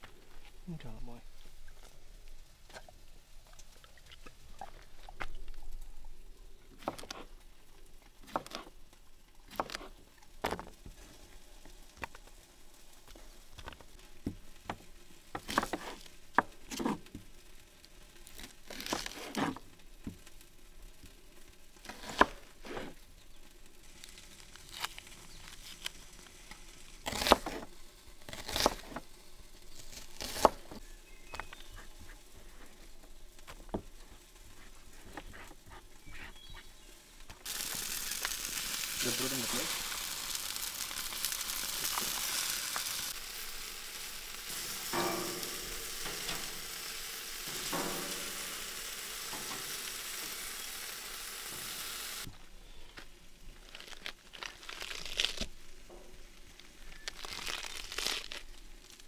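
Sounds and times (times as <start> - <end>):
rustling: 0.0 - 59.0.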